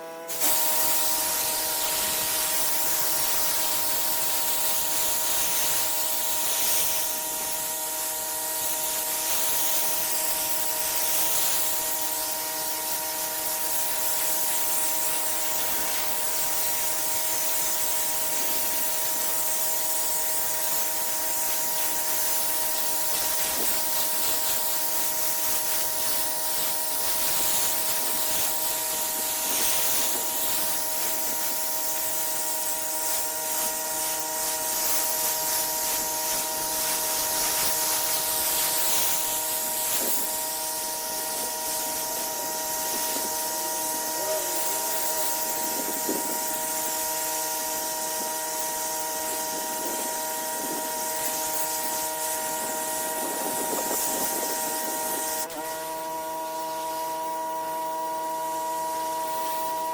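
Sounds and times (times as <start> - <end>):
pressure washer spray hissing: 0.2 - 59.9.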